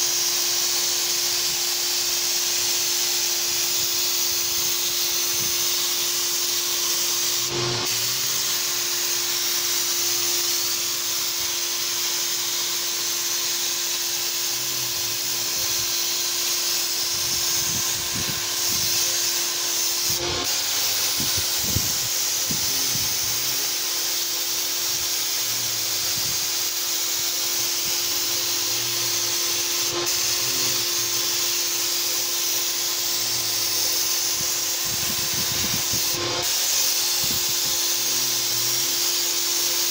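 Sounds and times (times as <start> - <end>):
paint sprayer hissing: 0.0 - 39.9
turbine humming: 0.0 - 39.9.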